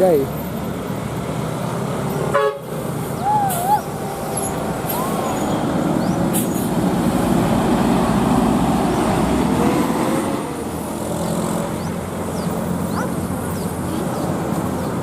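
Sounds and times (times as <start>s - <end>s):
bus engine: 0.0s - 15.0s
road noise: 0.0s - 15.0s.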